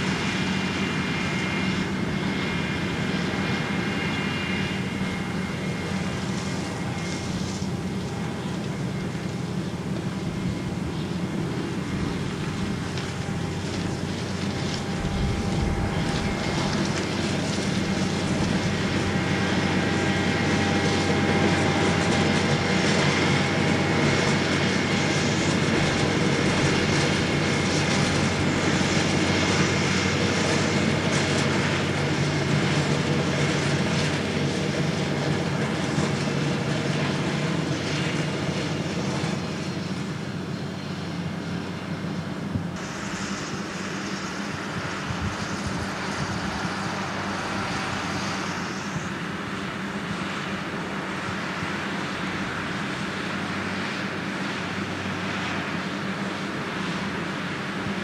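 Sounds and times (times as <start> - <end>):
diesel engines running: 0.0 - 58.0
harvester machinery whine: 0.0 - 58.0.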